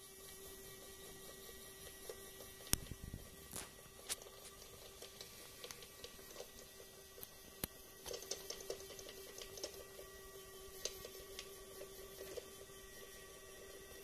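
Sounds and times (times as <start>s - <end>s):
small electric motor humming: 0.0s - 14.0s.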